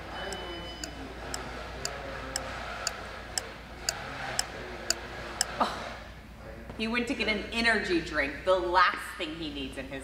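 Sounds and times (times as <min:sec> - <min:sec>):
faint background murmur: 0:00.0 - 0:10.0.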